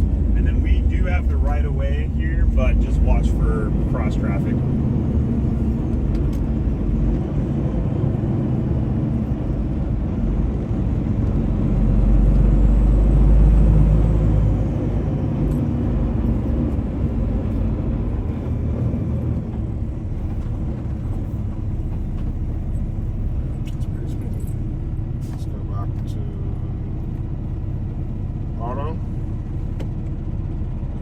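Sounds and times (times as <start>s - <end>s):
diesel truck engine rumble: 0.0s - 31.0s.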